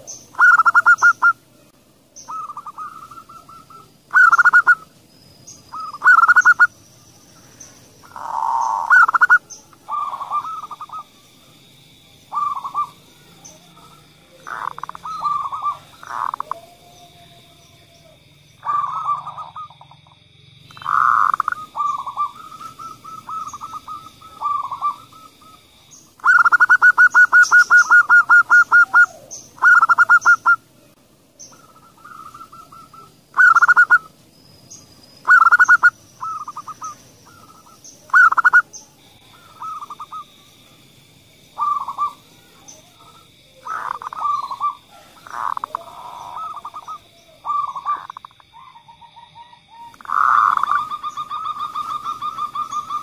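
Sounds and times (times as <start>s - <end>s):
doves cooing: 0.0s - 1.5s, 2.2s - 6.8s, 7.4s - 11.3s, 12.3s - 30.8s, 31.4s - 34.1s, 35.2s - 40.8s, 41.5s - 53.0s.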